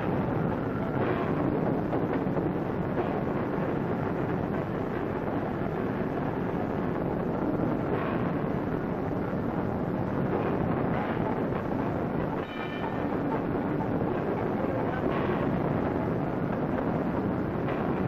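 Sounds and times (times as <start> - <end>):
dense mechanical rolling mill noise: 0.0 - 18.0.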